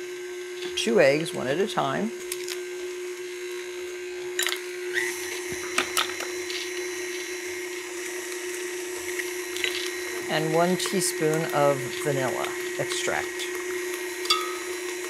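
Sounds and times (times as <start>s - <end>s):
stand mixer motor hum: 0.0s - 15.0s.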